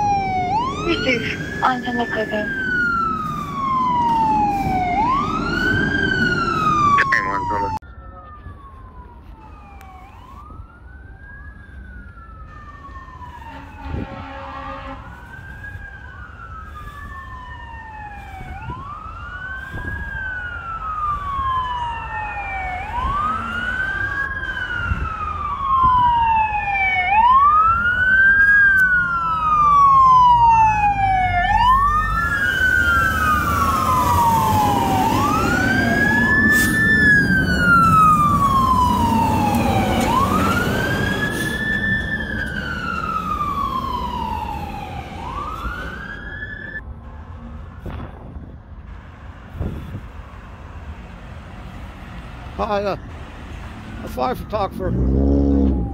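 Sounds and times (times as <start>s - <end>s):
fire engine siren wailing: 0.0s - 55.9s
truck engine and road noise: 0.0s - 55.9s.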